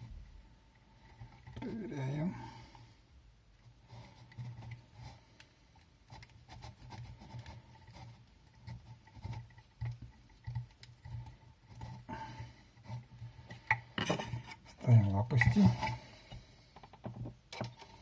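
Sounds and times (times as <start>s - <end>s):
small fan parts clicking and scraping: 0.0s - 18.0s.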